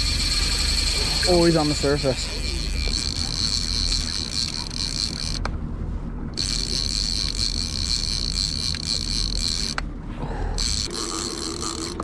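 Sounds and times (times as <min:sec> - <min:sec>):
outboard motors rumbling: 0:00.0 - 0:12.0
steady high whine: 0:00.0 - 0:12.0.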